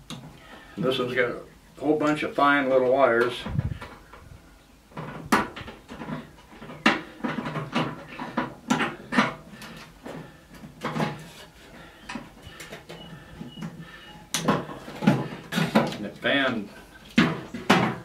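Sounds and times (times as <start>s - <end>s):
wires and sheet metal rattling: 3.0s - 18.0s.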